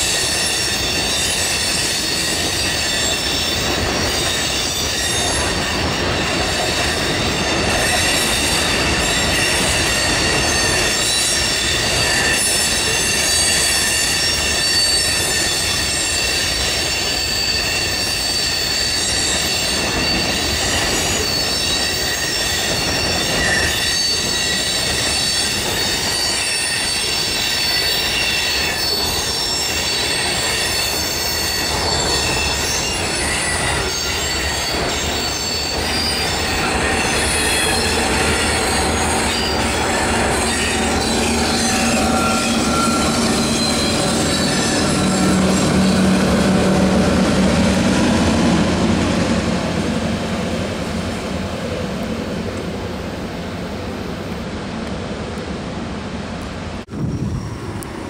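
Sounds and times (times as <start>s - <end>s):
high-pitched wheel squeal: 0.0s - 49.8s
freight train rumbling: 0.0s - 58.0s.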